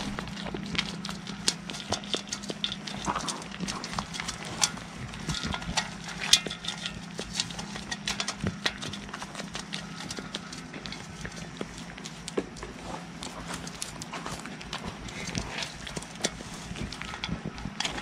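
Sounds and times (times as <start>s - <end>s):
goats crunching grain: 0.0s - 18.0s
low hum: 0.0s - 18.0s.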